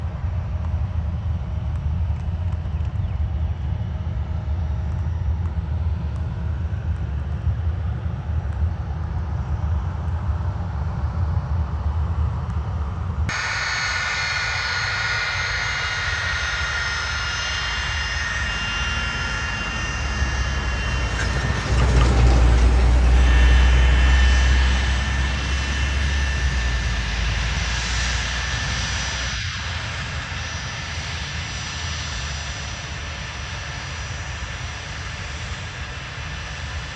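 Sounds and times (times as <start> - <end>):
jet engines whining and rumbling: 0.0 - 36.9.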